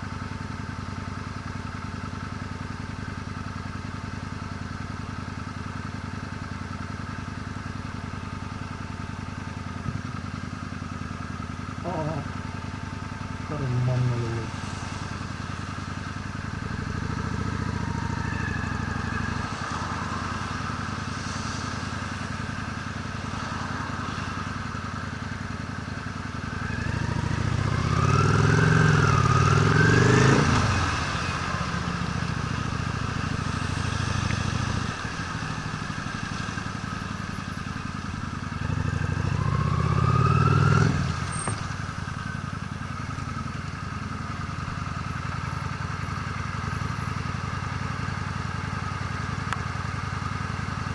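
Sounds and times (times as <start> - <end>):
motorcycle engine revving: 9.8 - 50.9.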